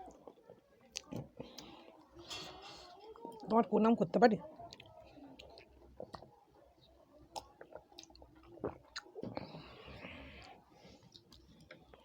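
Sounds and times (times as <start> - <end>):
close-up wet chewing: 0.0 - 2.2, 4.5 - 12.0.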